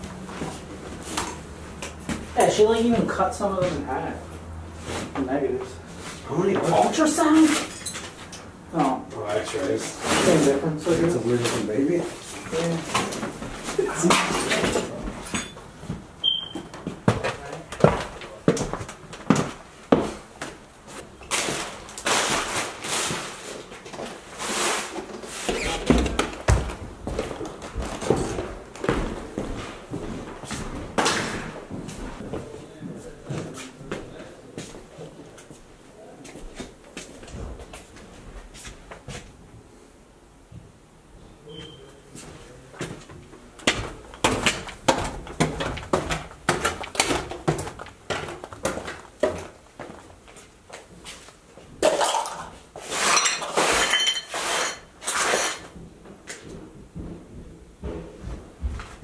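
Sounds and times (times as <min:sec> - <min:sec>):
footsteps and scuffing: 0:00.0 - 0:03.9, 0:09.2 - 0:39.4, 0:42.1 - 0:51.7, 0:55.3 - 0:59.0.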